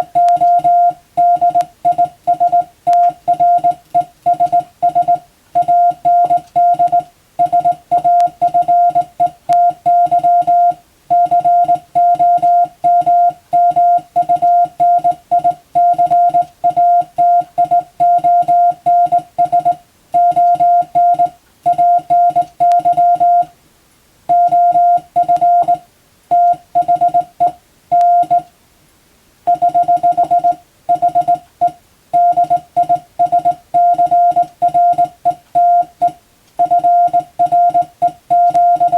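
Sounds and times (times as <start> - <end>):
morse code beeps: 0.0 - 23.5, 24.3 - 28.5, 29.5 - 38.9.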